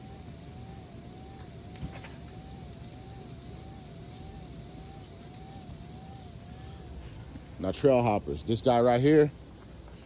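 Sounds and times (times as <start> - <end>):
faint wavering tone: 0.0 - 8.5
high steady hiss: 0.0 - 10.0.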